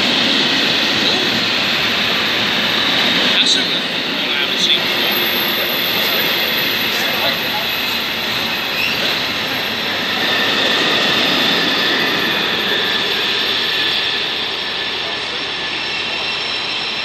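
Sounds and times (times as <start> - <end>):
high train whine: 0.0 - 17.0
train running noise: 0.0 - 17.0.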